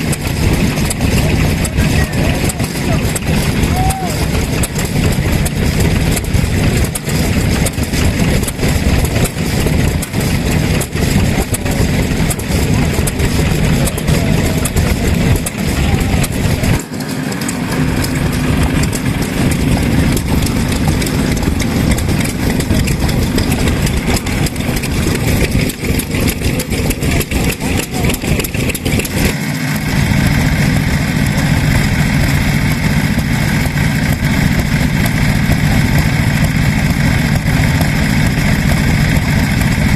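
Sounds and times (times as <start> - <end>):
stationary engines knocking: 0.0 - 39.9.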